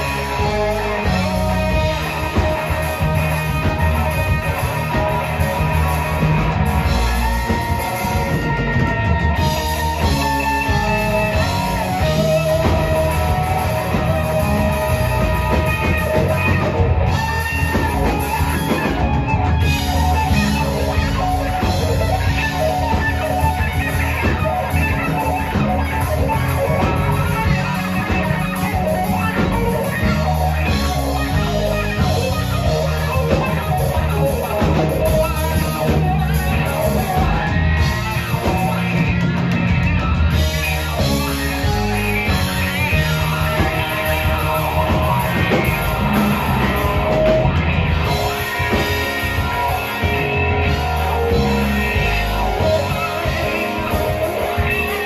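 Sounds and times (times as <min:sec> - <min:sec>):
bass guitar: 0:00.0 - 0:55.0
drum kit: 0:00.0 - 0:55.0
electric guitar: 0:00.0 - 0:55.0
keyboard: 0:00.0 - 0:55.0.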